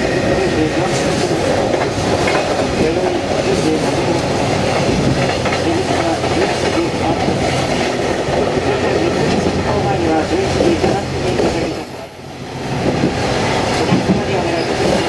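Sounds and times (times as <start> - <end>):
railcar running noise: 0.0 - 15.0.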